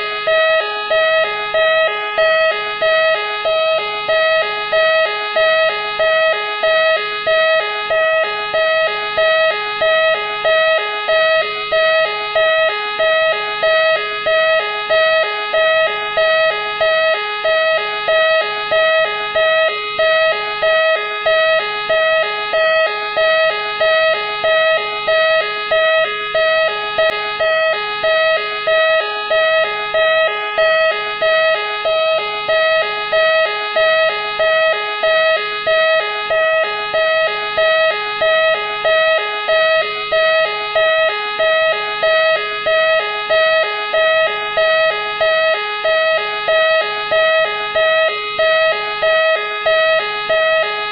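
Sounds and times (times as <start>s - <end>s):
police car siren: 0.0s - 50.9s.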